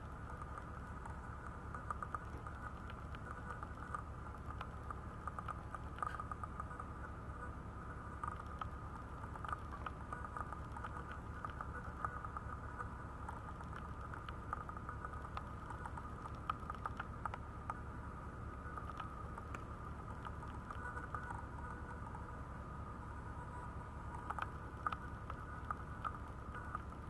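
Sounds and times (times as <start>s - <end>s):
light clicks and taps: 0.0s - 6.9s, 8.2s - 12.6s, 13.2s - 17.8s, 18.6s - 21.7s, 24.1s - 27.0s
steady room hum: 0.0s - 27.0s.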